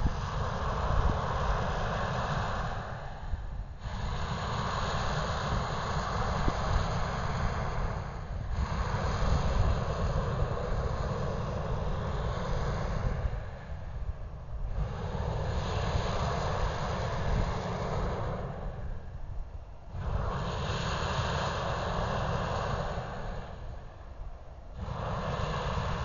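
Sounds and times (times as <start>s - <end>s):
propane burner roaring: 0.0s - 26.0s
wind rumble on microphone: 0.0s - 26.0s.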